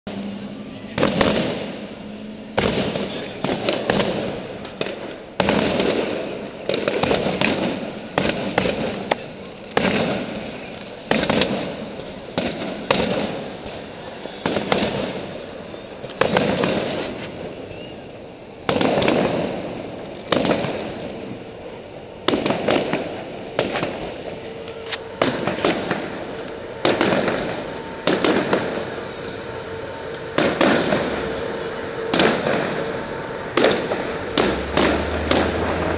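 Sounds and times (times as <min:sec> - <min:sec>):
fireworks shells bursting: 0:00.9 - 0:35.9.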